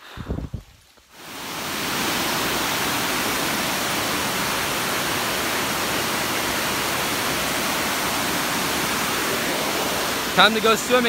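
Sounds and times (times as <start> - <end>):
water rushing over dam: 0.0 - 11.0.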